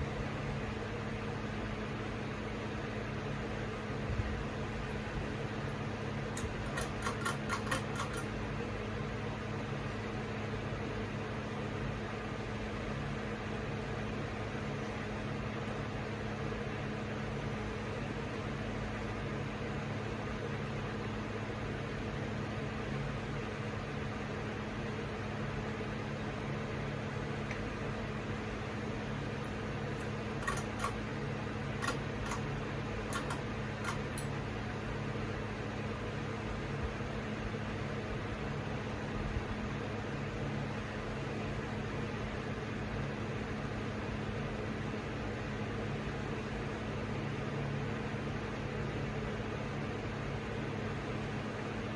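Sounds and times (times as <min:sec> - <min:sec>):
ceiling fan motor hum: 0:00.0 - 0:51.9.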